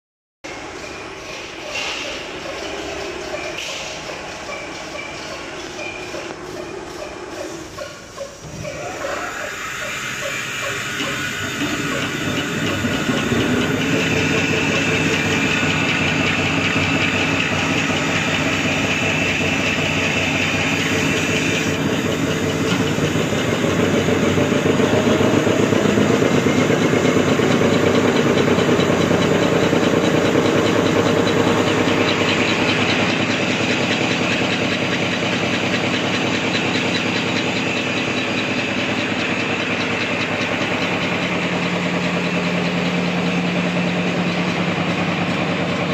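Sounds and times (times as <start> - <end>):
napkin making machine running: 0.5 - 45.9.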